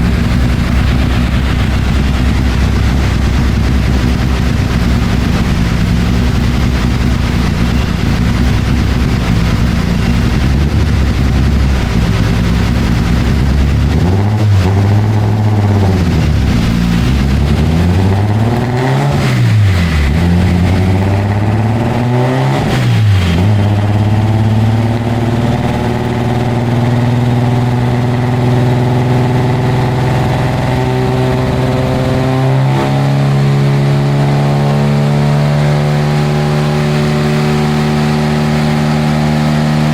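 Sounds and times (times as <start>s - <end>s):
car engine revving on a dyno: 0.0s - 39.9s.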